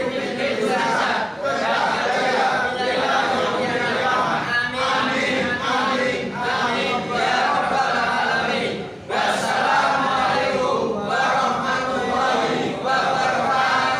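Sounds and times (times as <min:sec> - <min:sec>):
congregation chanting in unison: 0:00.0 - 0:13.9.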